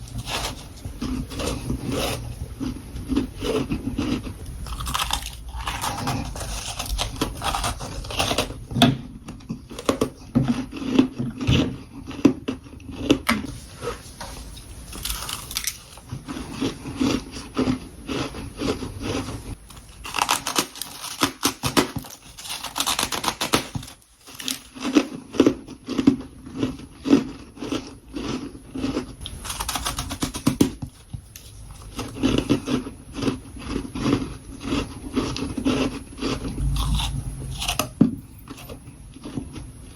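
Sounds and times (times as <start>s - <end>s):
crunching freezer frost: 0.0s - 39.9s.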